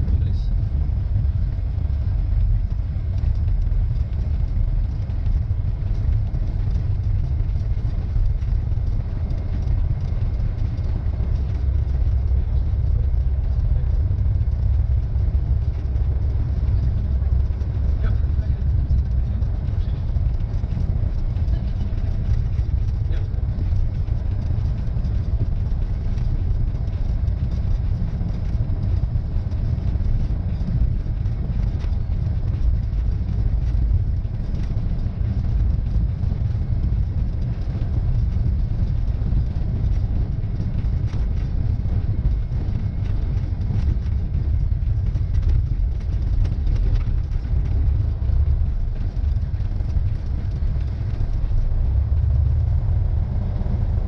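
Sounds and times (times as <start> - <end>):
light aircraft engine and propeller drone: 0.0 - 54.0.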